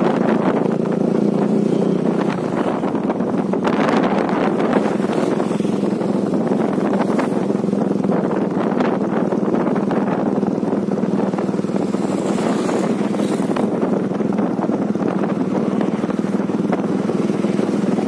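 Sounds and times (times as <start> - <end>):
motorcycle engine cruising: 0.0 - 18.0
wind rushing over microphone: 0.0 - 18.0.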